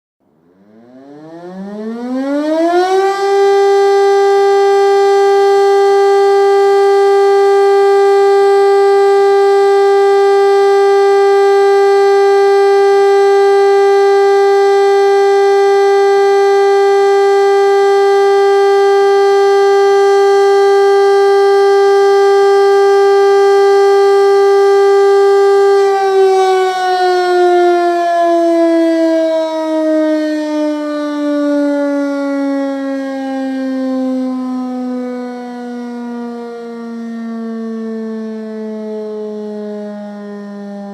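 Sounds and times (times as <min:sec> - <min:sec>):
air-raid siren wailing: 0:00.3 - 0:40.9.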